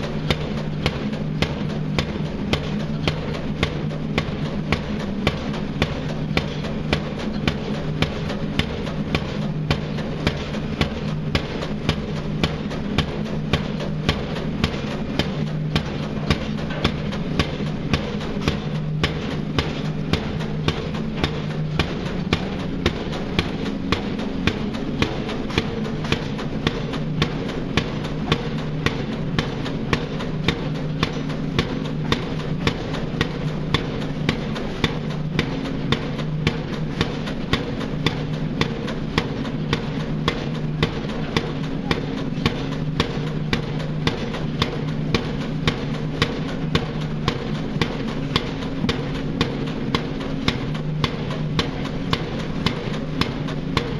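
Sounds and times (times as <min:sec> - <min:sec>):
pile driver hammer striking: 0:00.0 - 0:53.9
rig engine running: 0:00.0 - 0:53.9.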